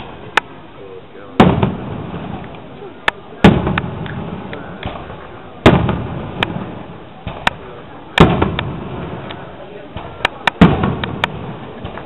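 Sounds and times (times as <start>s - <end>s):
firework shells booming: 1.3s - 12.0s
sharp firework cracks: 1.4s - 12.0s.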